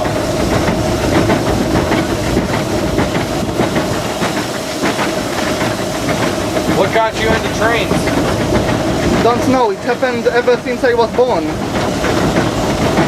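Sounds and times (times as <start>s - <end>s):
locomotive rattling clicks and knocks: 0.0s - 13.0s
steam hissing: 0.0s - 13.0s.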